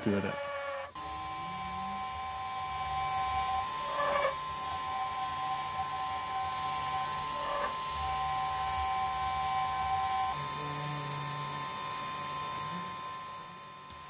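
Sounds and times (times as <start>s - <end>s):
router spindle electric whine: 0.0s - 14.0s.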